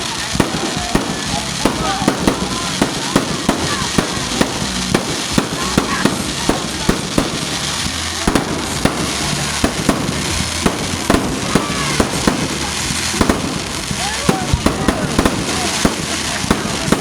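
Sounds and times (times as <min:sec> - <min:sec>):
fireworks bangs and pops: 0:00.0 - 0:17.0
fireworks crackling rumble: 0:00.0 - 0:17.0.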